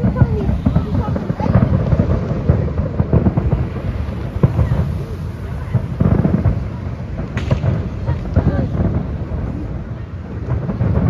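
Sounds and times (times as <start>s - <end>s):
continuous rumble: 0.0s - 11.0s
firework booms: 0.0s - 11.0s
muffled firework bangs: 0.0s - 11.0s.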